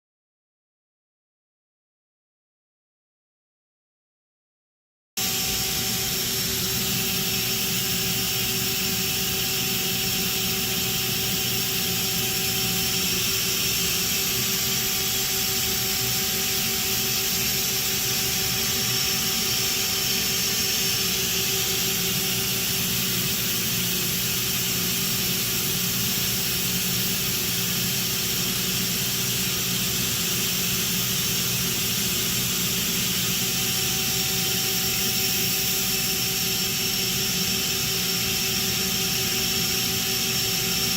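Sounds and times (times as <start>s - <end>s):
machine tool humming and whining: 5.2s - 40.9s.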